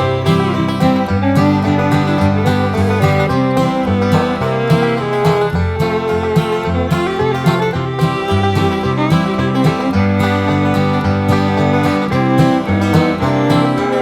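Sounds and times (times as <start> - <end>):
upbeat country guitar music: 0.0 - 14.0.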